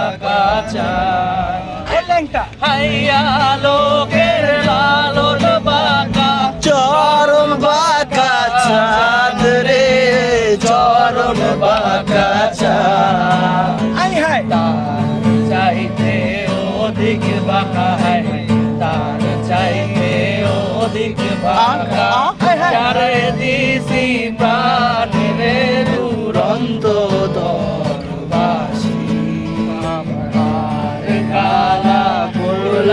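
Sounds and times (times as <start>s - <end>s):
acoustic guitar strumming: 0.0s - 32.9s
man singing: 0.0s - 32.9s.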